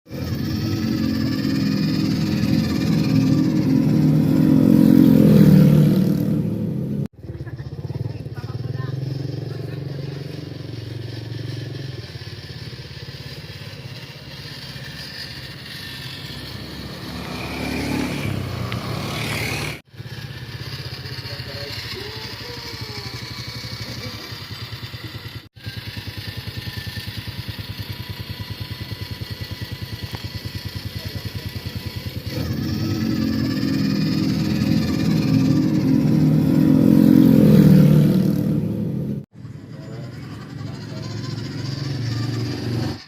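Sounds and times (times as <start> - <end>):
motorcycle engine running: 0.1 - 43.0.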